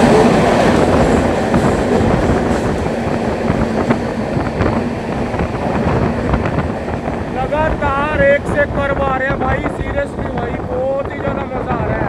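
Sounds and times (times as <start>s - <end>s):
train rumbling at speed: 0.0s - 12.0s
wind buffeting microphone: 0.0s - 12.0s.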